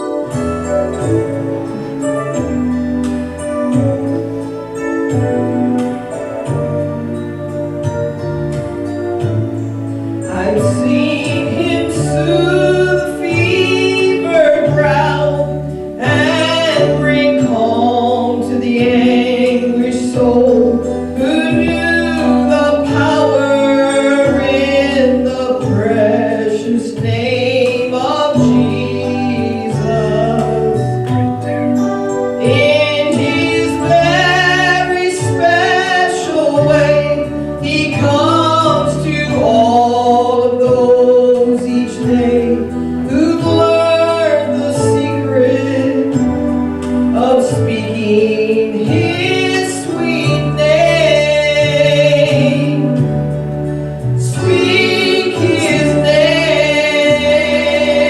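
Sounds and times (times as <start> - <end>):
instrumental accompaniment: 0.0 - 58.0
woman singing gospel song: 10.2 - 53.3, 54.2 - 58.0.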